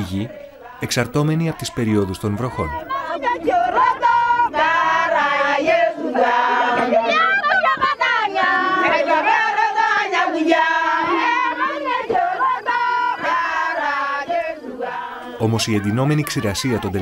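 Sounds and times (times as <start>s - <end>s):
women singing in chorus: 0.0s - 17.0s.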